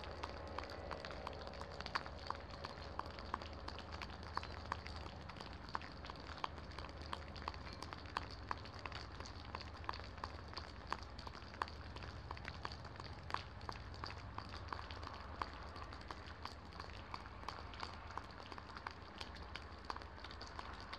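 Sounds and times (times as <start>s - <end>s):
low steady rumble: 0.0s - 20.9s
rain hissing: 0.0s - 20.9s
raindrops ticking close by: 0.0s - 20.9s.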